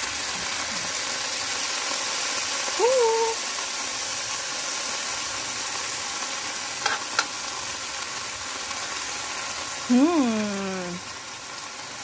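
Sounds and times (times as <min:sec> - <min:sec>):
garlic sizzling in wok: 0:00.0 - 0:12.0.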